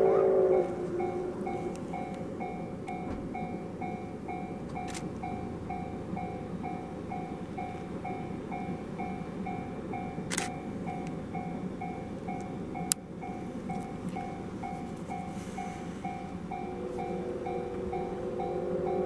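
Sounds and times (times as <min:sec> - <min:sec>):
low rumble: 0:00.0 - 0:10.0, 0:12.7 - 0:19.0
level crossing alarm bell ringing: 0:00.0 - 0:19.0.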